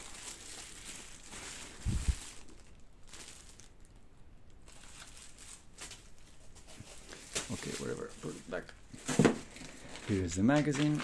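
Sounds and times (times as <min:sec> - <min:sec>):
packaging handling noise: 0:00.0 - 0:11.0.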